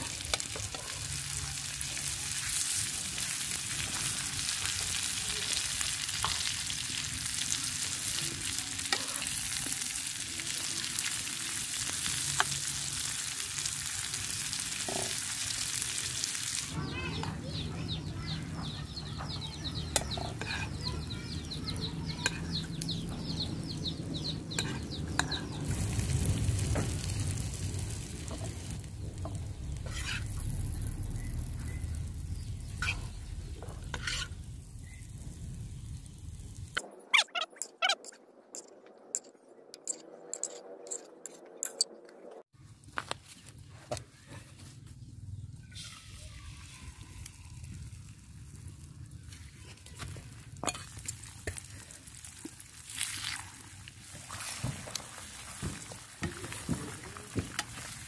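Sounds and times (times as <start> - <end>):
onion rings sizzling in oil: 0.0 - 17.4, 18.4 - 38.1, 45.7 - 58.0.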